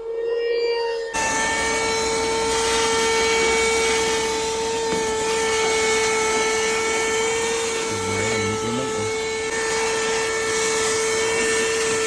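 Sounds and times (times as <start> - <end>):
vacuum cleaner motor whine: 1.2 - 12.0.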